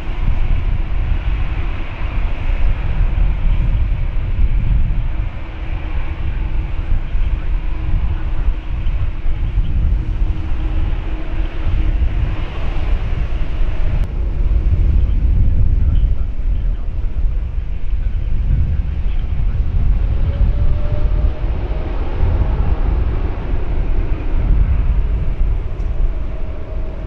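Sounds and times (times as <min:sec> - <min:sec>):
jet engines whining: 0:00.0 - 0:27.0
wind buffeting microphone: 0:00.0 - 0:27.0.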